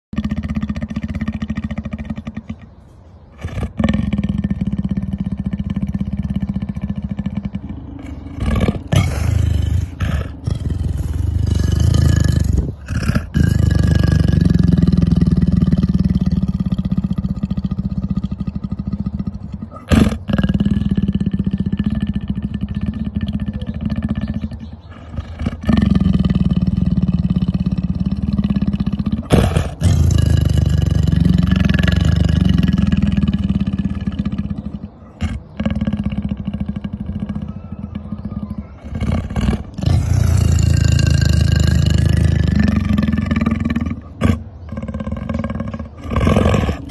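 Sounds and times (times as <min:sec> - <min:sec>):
leopard growling: 0:00.1 - 0:46.9.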